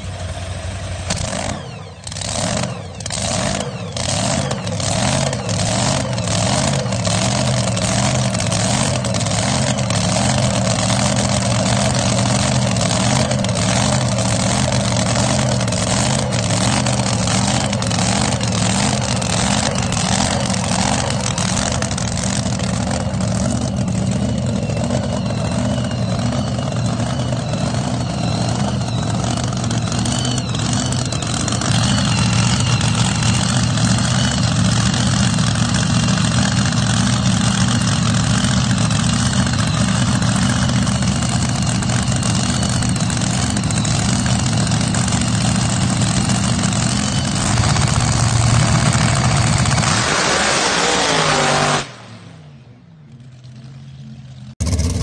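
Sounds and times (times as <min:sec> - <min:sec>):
drag car engine idling: 0:00.0 - 0:50.0, 0:52.8 - 0:55.0.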